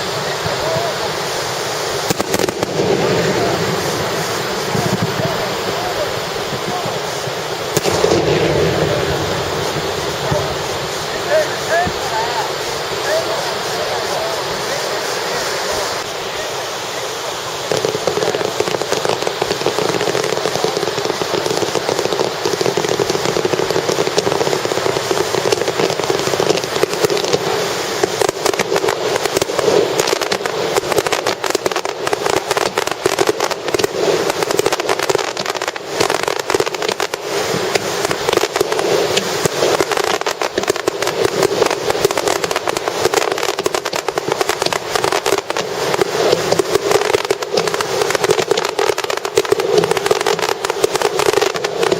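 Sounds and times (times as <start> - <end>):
fireworks bursting and crackling: 0.0 - 51.9.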